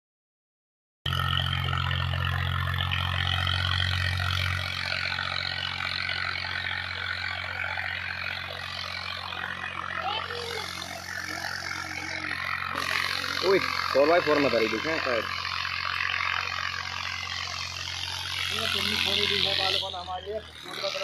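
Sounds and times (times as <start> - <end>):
tractor engine running: 1.1 - 21.0.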